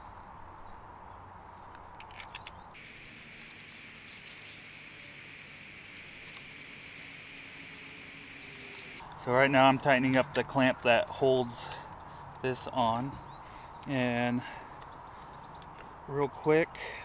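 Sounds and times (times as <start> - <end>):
small birds chirping: 1.8 - 16.6.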